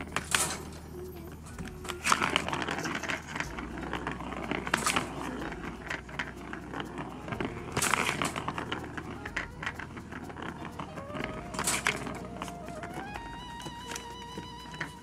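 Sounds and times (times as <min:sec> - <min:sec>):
kitten moving in wire cage: 0:00.0 - 0:15.0.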